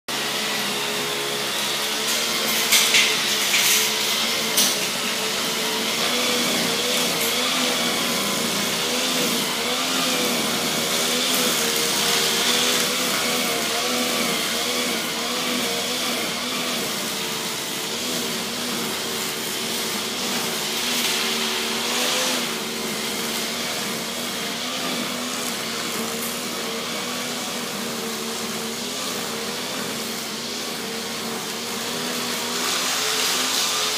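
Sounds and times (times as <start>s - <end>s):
small motor whirring: 0.2s - 33.9s.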